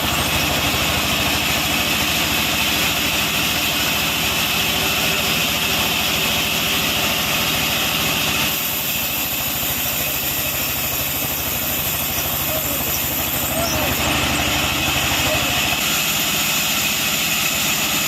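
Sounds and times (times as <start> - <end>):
sawmill machinery drone: 0.0 - 18.0.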